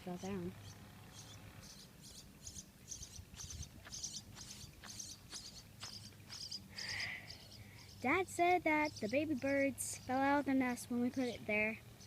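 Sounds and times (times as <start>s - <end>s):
faint high-pitched chirping: 0.0s - 12.0s.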